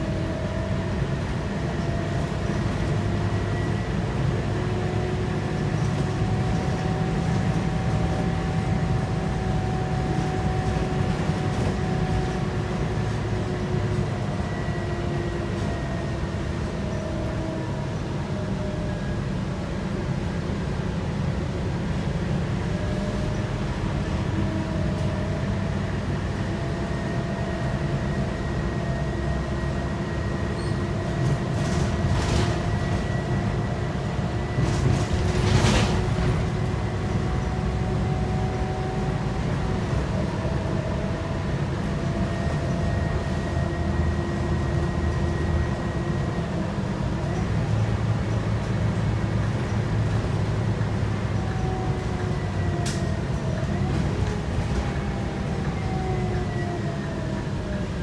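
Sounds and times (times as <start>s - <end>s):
bus engine drone and whine: 0.0s - 58.0s.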